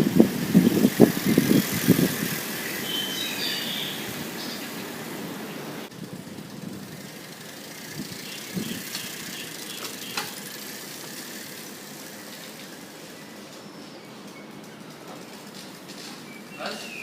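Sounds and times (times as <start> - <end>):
bicycle wheel noisemaker: 0.0 - 16.6.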